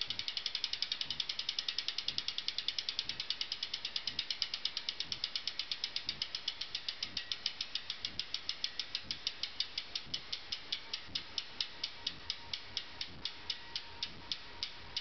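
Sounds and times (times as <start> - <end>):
bicycle freewheel ticking: 0.0 - 15.0.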